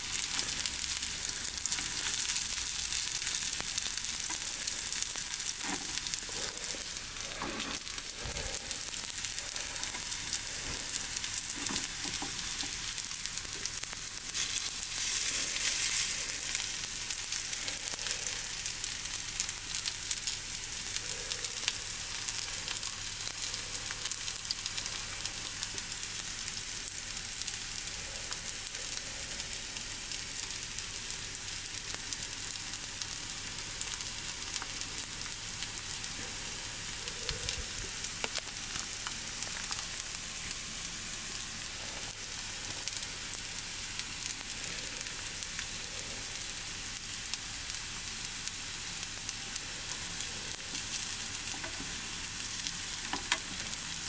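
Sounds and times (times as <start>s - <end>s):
hot oil sizzling and crackling: 0.0s - 54.0s.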